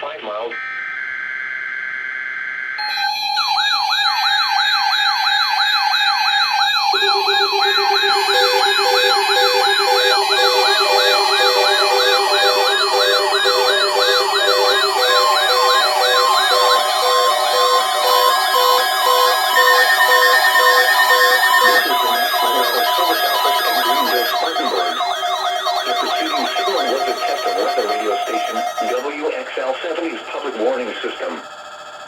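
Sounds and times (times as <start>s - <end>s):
steady alarm tone: 0.5s - 32.0s
high warbling alarm: 0.6s - 32.0s
wailing sirens: 2.8s - 31.4s
electronic beeping tones: 5.0s - 32.0s.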